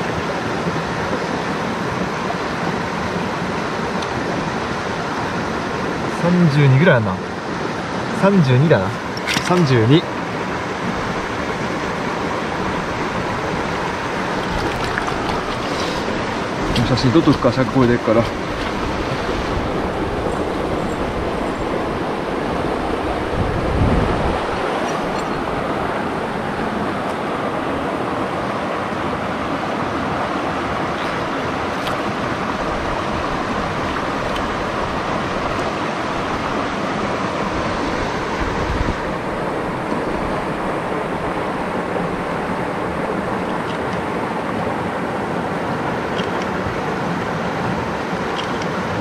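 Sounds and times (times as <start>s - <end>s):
stream water rushing: 0.0s - 49.0s.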